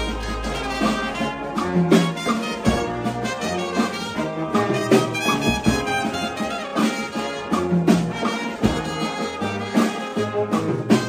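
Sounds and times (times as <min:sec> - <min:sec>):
instrumental brass music: 0:00.0 - 0:11.0.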